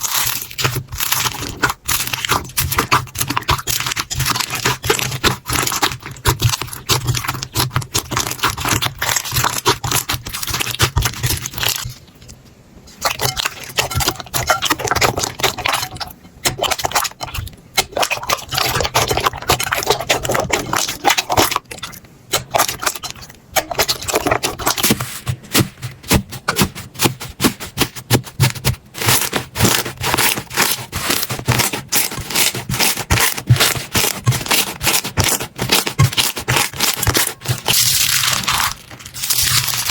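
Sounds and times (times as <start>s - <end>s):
slime crackling and popping: 0.0s - 12.1s, 13.0s - 25.6s, 27.8s - 39.9s.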